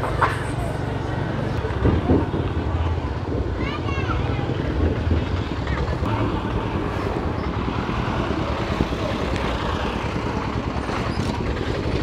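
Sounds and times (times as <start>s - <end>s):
road noise on rough road: 0.0s - 12.0s
vehicle engine: 0.0s - 12.0s.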